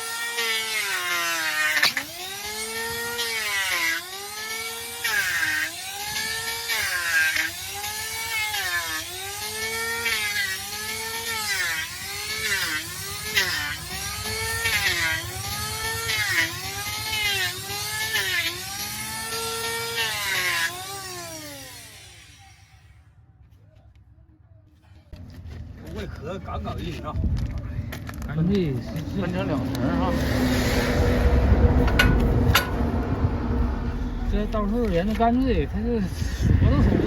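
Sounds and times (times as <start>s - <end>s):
power tool cutting hoof: 0.0s - 23.2s, 28.4s - 37.0s.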